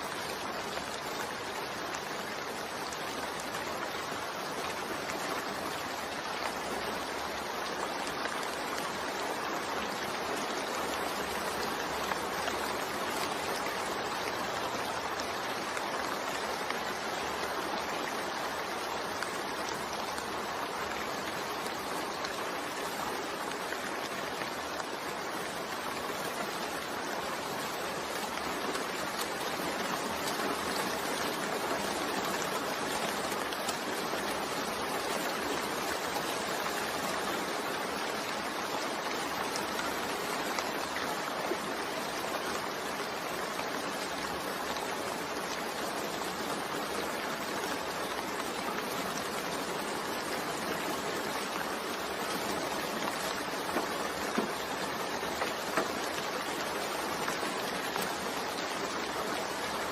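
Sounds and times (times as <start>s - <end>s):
rain with white noise hiss: 0.0s - 59.9s.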